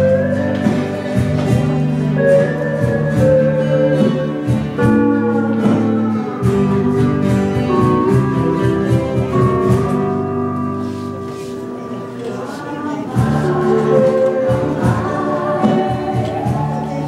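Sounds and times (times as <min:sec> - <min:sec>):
live band music: 0:00.0 - 0:17.0
steel guitar melody: 0:00.0 - 0:17.0.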